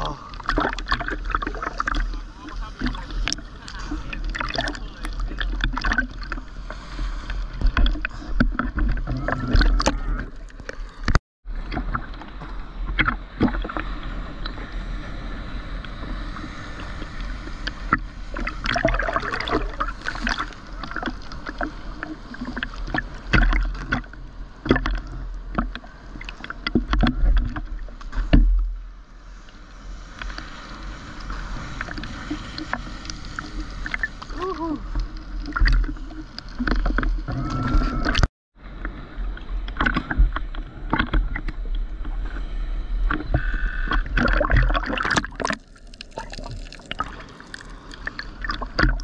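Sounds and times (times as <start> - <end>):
muffled water sloshing and splashing: 0.0 - 49.0.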